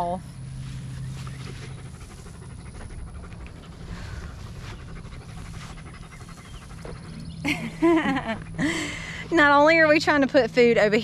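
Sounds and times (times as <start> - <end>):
dog panting: 1.3 - 10.8.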